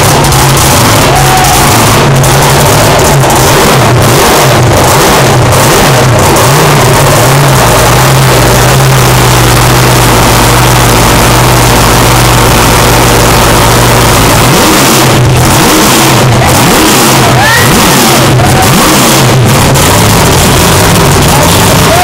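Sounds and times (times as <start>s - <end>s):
boat engine revving: 0.0s - 22.0s.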